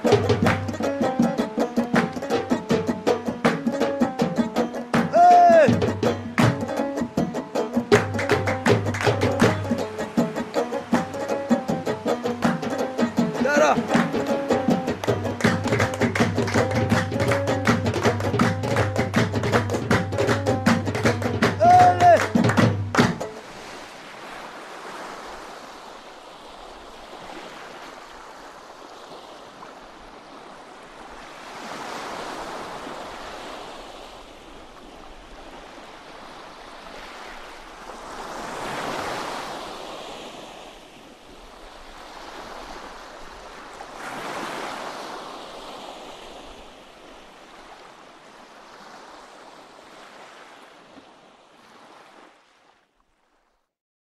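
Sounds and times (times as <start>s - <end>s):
small waves breaking on beach: 0.0s - 53.7s.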